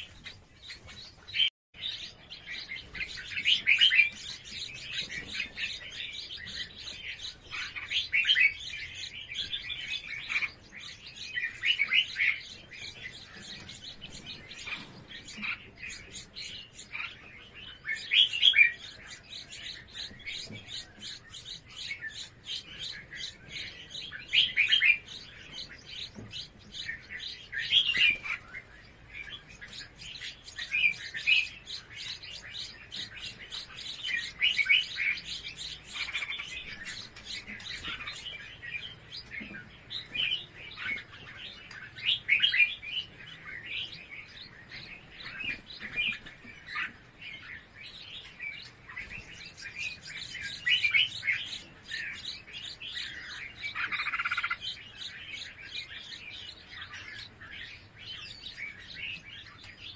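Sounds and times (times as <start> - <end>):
nestlings chirping: 0.0 - 59.9.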